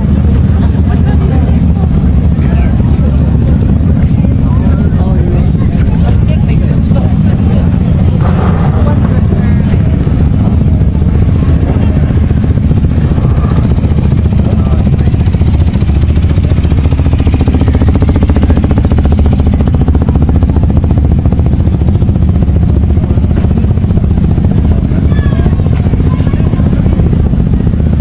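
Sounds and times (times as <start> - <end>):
motorcycle engines rumbling: 0.0 - 28.0.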